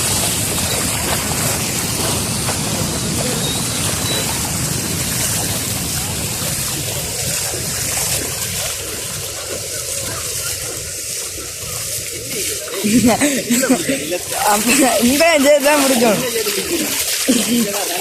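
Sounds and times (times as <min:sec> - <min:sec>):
floodwater rushing: 0:00.0 - 0:18.0.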